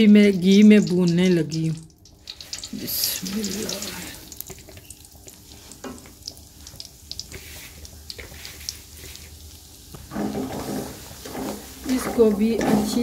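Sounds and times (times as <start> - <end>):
ghee sizzling with small crackles: 0.0 - 13.0.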